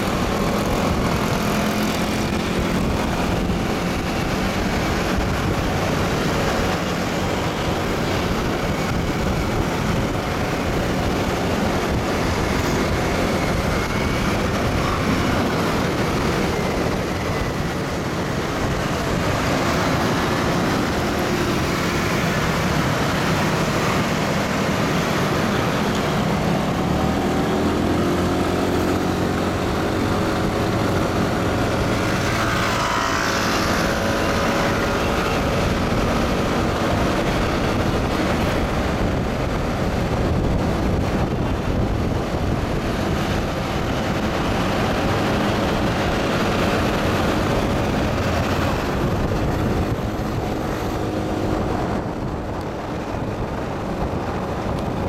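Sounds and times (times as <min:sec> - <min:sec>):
cars and scooters passing: 0:00.0 - 0:55.0
motorcycle engine running: 0:00.0 - 0:55.0
road and wind noise: 0:00.0 - 0:55.0.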